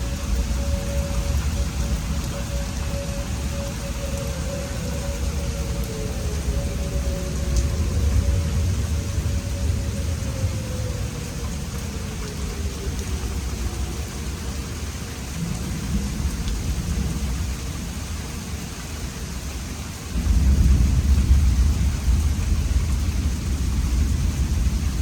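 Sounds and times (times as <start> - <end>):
thunder rumbling: 0.0 - 18.7, 20.1 - 25.0
steady rain: 0.0 - 25.0.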